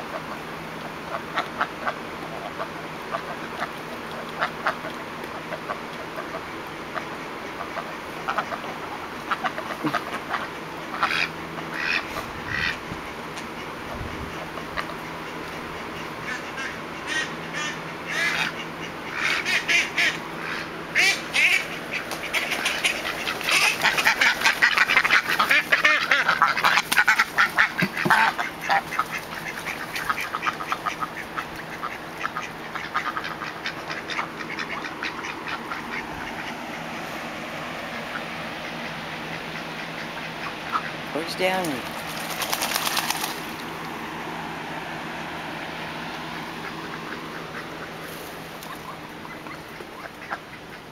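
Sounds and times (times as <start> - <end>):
ducks quacking: 0.0 - 50.9.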